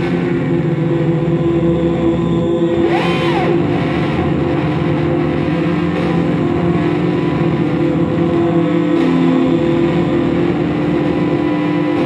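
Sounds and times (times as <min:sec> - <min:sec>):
drone of held tones: 0:00.0 - 0:12.0
rough low rumble: 0:00.0 - 0:12.0.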